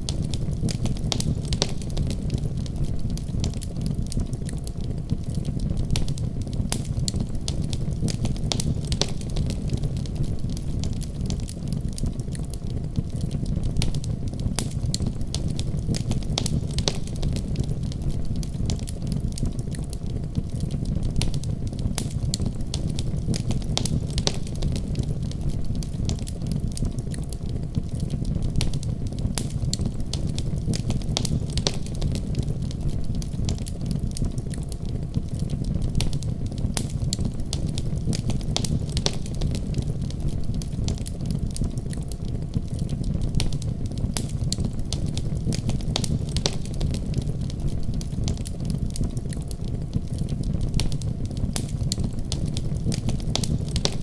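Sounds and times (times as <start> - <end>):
low rumble of flame: 0.0 - 54.0
wood fire crackling and popping: 0.0 - 54.0.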